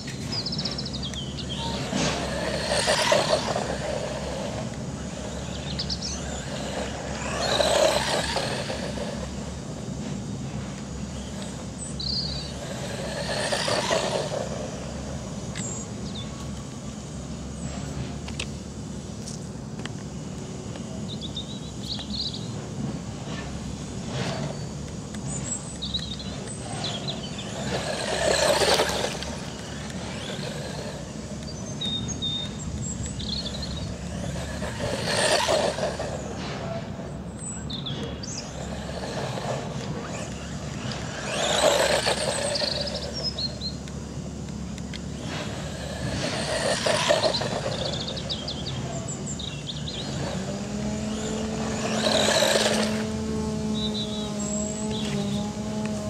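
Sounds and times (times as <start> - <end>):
birds chirping faintly: 0.0 - 17.9, 20.2 - 22.6, 24.4 - 56.0
rc car motor passing: 0.0 - 56.0.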